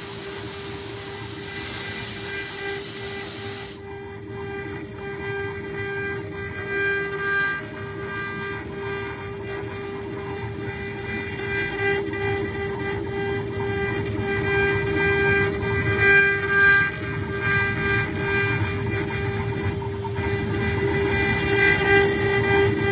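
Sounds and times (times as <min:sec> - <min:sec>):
spindle high whine: 0:00.0 - 0:22.9
stepper motors whining: 0:00.0 - 0:22.9.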